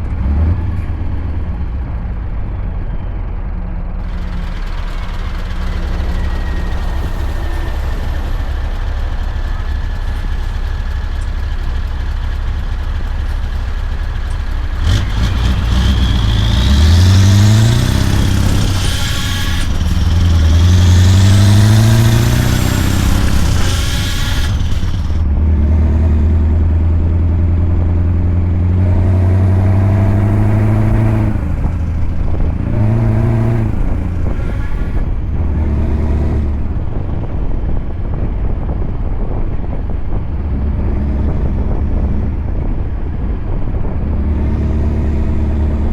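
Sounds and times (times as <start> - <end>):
truck engine accelerating: 0.0 - 45.9.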